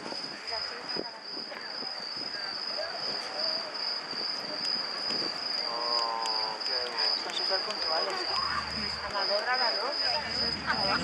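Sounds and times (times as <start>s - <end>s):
cricket trilling: 0.0s - 11.0s
murmur of crowd voices: 0.0s - 11.0s.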